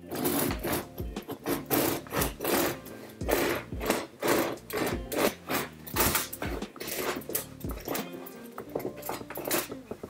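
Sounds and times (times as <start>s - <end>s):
bread knife sawing crusty loaf: 0.0s - 8.2s.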